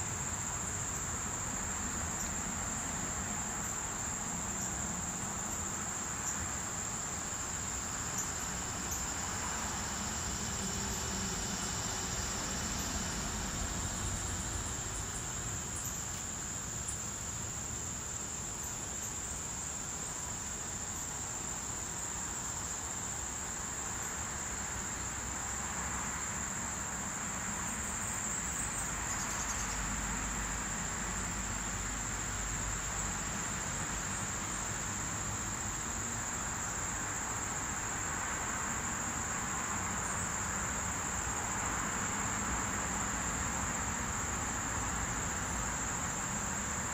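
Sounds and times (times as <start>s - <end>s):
insects singing: 0.0s - 25.4s, 26.1s - 46.9s.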